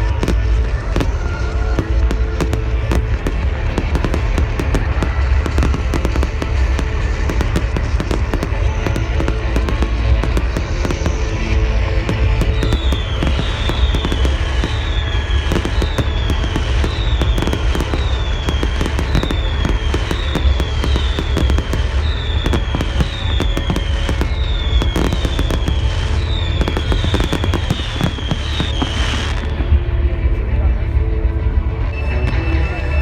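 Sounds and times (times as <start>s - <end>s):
falling firework whistle: 0.0s - 29.6s
firework bangs and crackling: 0.0s - 30.0s
deep rumble: 0.0s - 33.0s.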